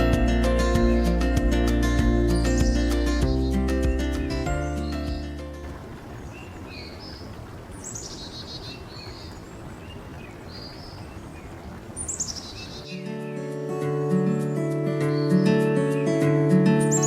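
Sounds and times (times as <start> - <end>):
outdoor background hiss: 0.0 - 15.9
songbirds chirping: 2.2 - 13.1, 14.2 - 17.0.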